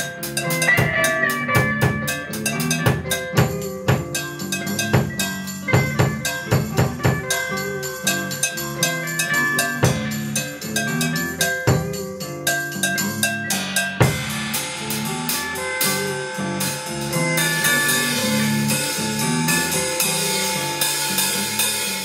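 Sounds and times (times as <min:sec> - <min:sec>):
cymbal wash: 0:00.0 - 0:22.0
drum kit playing bossa nova: 0:00.0 - 0:22.0
electric guitar chords: 0:00.0 - 0:22.0.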